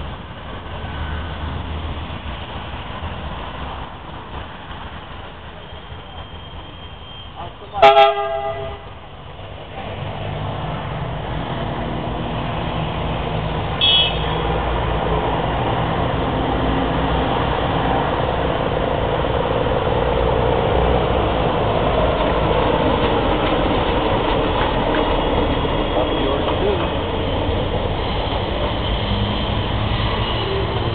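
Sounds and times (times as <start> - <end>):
diesel train engine passing: 0.0 - 30.9
wheels rumbling on track: 0.0 - 30.9.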